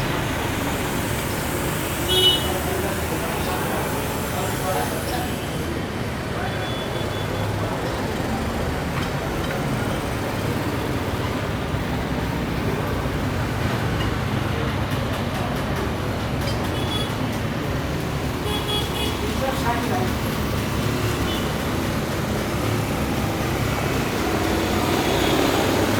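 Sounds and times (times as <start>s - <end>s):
low engine rumble with hiss: 0.0s - 25.9s.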